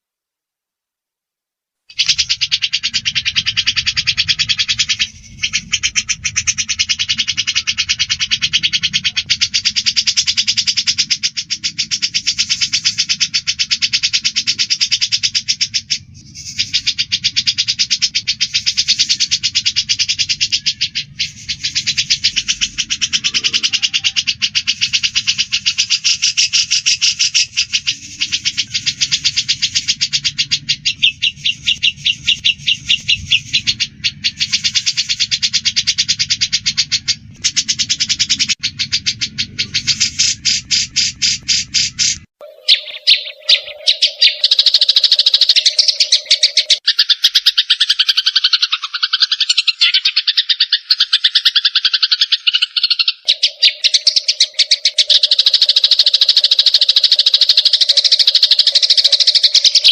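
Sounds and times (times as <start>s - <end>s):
songbird chattering: 1.9s - 59.9s.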